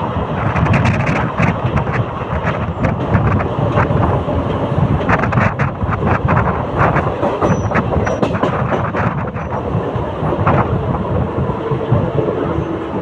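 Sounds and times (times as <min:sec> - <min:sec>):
train rumbling: 0:00.0 - 0:13.0
wheels clacking over rail joints: 0:00.0 - 0:13.0.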